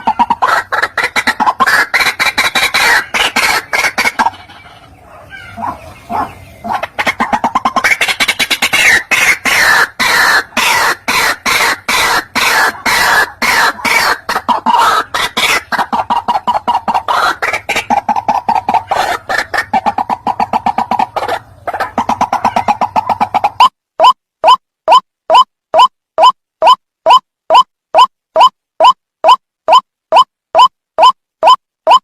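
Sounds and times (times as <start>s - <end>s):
waterhen calling harsh notes: 0.0s - 29.0s.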